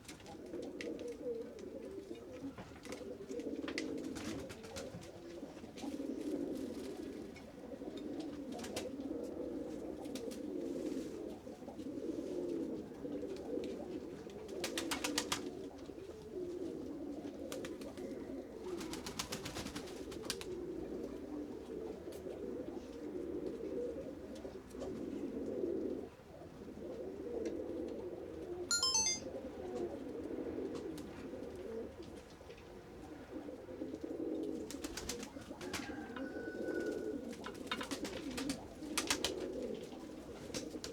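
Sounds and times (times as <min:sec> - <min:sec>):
pigeons cooing: 0:00.0 - 0:28.6, 0:31.0 - 0:40.9.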